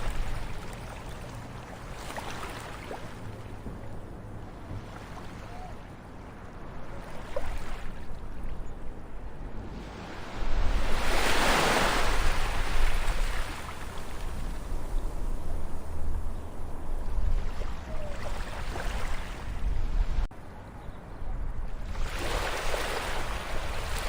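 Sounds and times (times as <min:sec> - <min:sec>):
ocean waves washing on shore: 0:00.0 - 0:20.3, 0:21.7 - 0:24.0.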